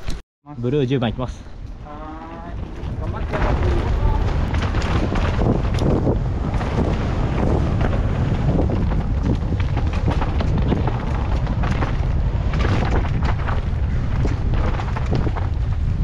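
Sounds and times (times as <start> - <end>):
wind buffeting microphone: 0.7 - 16.0
tyres on loose dirt: 1.6 - 16.0
bike clattering over bumps: 1.7 - 16.0.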